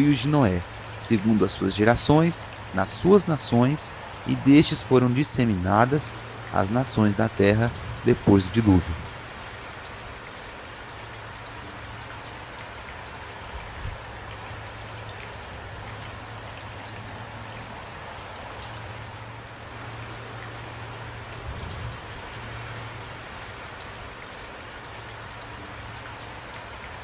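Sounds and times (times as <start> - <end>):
rain drops tapping: 0.0 - 27.0.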